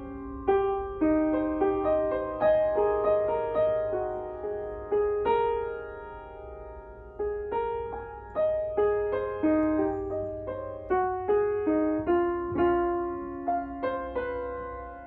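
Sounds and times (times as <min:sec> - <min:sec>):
grand piano played slowly: 0:00.0 - 0:15.0.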